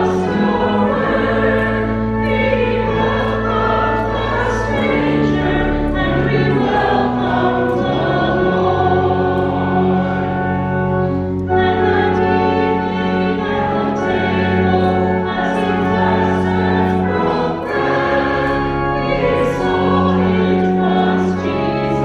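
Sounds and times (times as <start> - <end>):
choir singing a hymn: 0.0 - 22.0
sustained low accompanying notes: 0.0 - 22.0.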